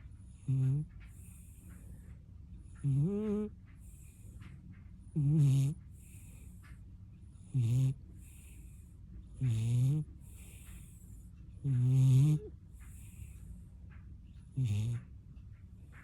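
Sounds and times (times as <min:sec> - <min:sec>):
dog snoring: 0:00.0 - 0:04.5, 0:05.1 - 0:06.7, 0:07.4 - 0:13.5, 0:14.4 - 0:15.1
soft airy breaths: 0:00.0 - 0:16.0.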